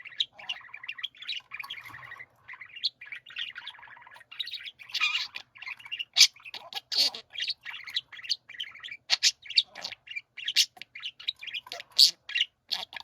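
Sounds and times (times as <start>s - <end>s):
budgerigars warbling and chattering: 0.0s - 13.0s.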